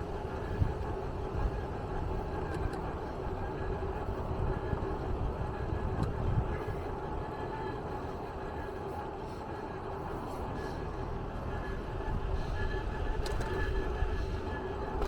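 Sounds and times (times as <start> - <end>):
steady hum: 0.0 - 15.0
vehicle rumble: 0.0 - 15.0.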